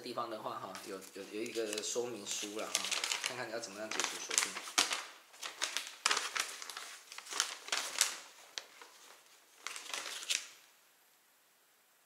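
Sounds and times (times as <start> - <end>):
paper crinkling: 0.6 - 10.7.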